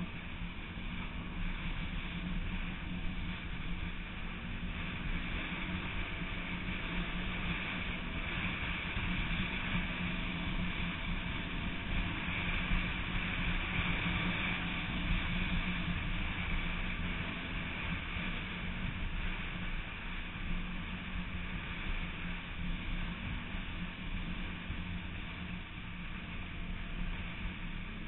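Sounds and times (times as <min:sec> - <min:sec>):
vehicle engine droning: 0:00.0 - 0:28.0
wind noise on microphone: 0:00.0 - 0:28.0.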